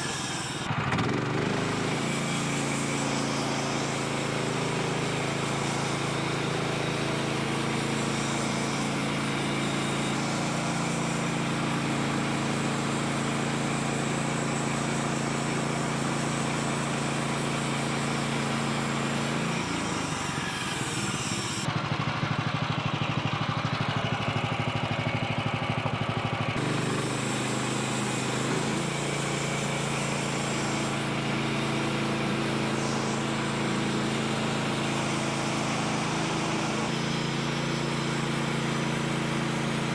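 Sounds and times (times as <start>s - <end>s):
saw blade cutting log: 0.0s - 21.7s, 26.6s - 39.9s
small gasoline engine running: 0.0s - 39.9s.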